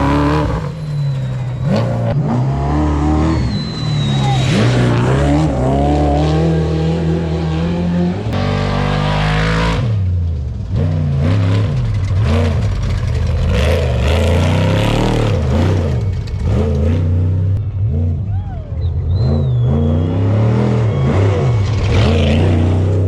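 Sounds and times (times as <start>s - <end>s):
truck engines revving: 0.0s - 23.0s.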